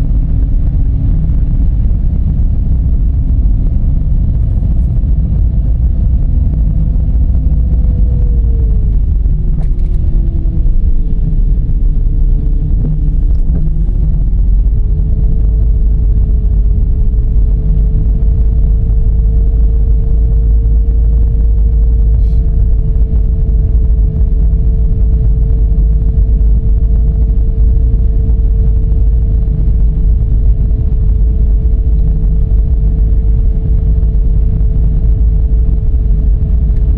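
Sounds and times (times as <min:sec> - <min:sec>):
car engine and road rumble: 0:00.0 - 0:36.9
car whine: 0:00.0 - 0:36.9.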